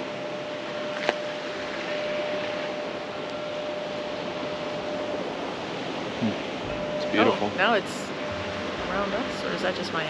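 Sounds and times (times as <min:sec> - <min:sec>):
faint steady tone: 0:00.0 - 0:10.0
wind: 0:00.0 - 0:10.0.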